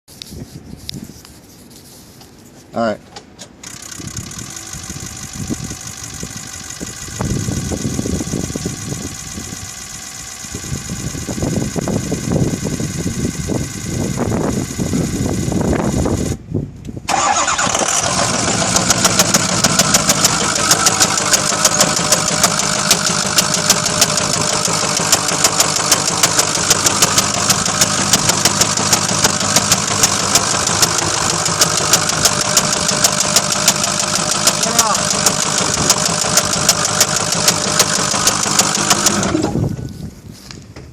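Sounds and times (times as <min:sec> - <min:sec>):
engine knocking: 0:03.6 - 0:15.5, 0:17.1 - 0:39.6
diesel engine idling: 0:03.6 - 0:16.4, 0:17.1 - 0:40.2.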